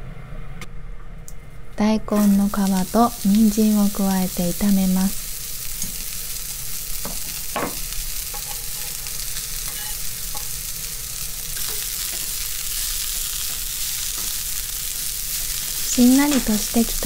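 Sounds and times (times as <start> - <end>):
vegetables sizzling in oil: 2.1 - 17.0.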